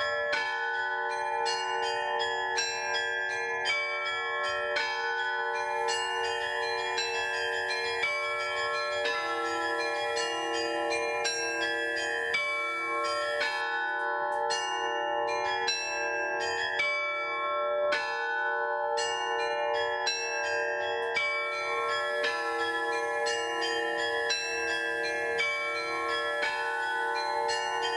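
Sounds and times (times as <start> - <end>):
church bells ringing: 0.0 - 27.9.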